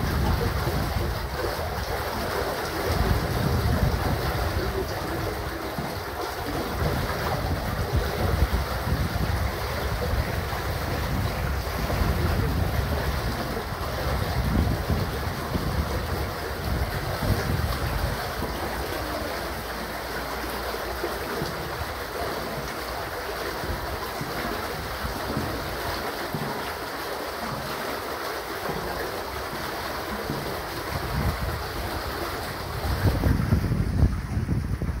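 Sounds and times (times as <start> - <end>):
wastewater gushing from pipe: 0.0 - 35.0.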